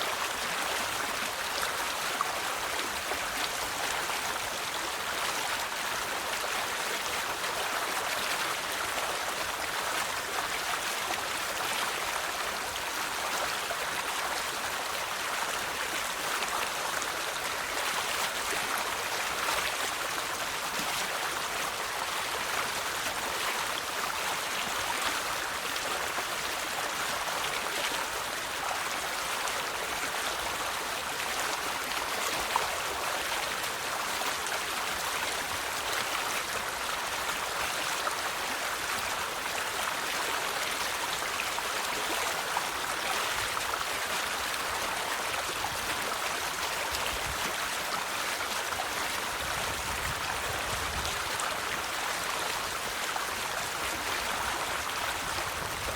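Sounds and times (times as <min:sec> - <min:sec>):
river water over rocks: 0:00.0 - 0:55.9.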